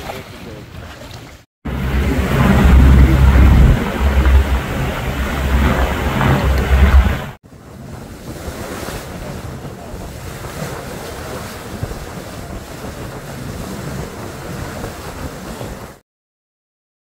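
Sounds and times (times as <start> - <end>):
ocean waves around boat: 0.0 - 16.0
wind buffeting microphone: 1.6 - 16.0.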